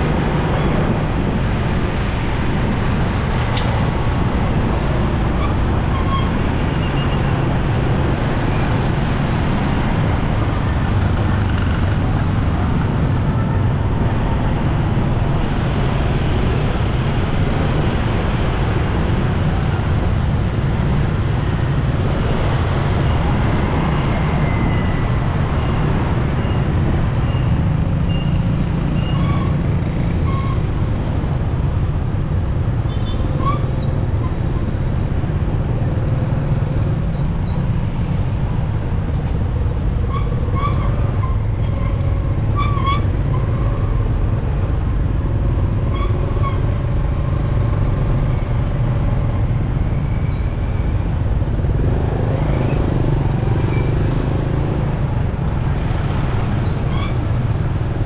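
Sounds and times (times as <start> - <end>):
surrounding road traffic: 0.0 - 58.0
wind and road noise: 0.0 - 58.0.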